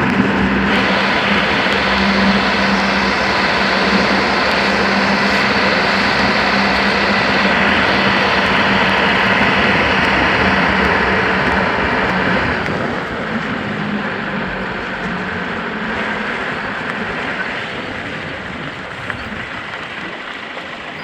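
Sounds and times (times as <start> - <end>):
broad rushing road noise: 0.0 - 21.0
truck engine drone: 0.0 - 21.0.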